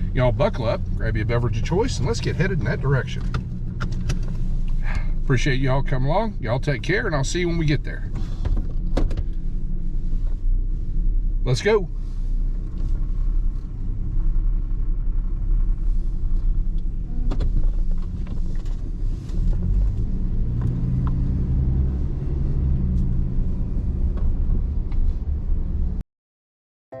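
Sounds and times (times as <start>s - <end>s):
truck engine and road rumble: 0.0s - 26.0s.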